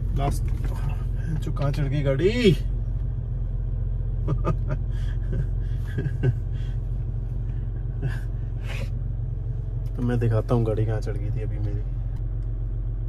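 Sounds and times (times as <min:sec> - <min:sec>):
car engine and road noise rumble: 0:00.0 - 0:13.0.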